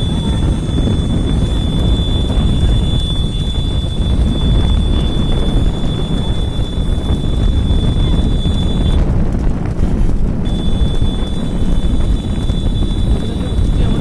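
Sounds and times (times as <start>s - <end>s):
motorcycle engines rumbling: 0.0s - 14.0s
steady high whine: 0.0s - 14.0s
wind buffeting microphone: 0.0s - 14.0s.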